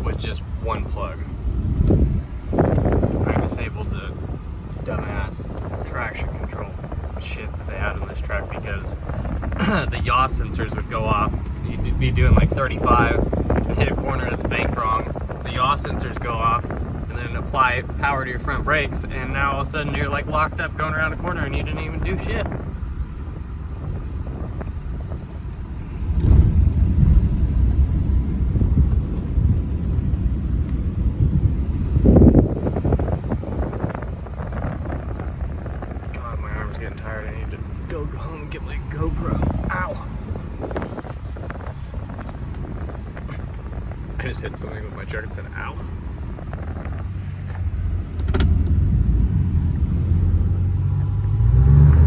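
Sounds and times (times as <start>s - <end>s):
truck engine and road rumble: 0.0s - 52.0s.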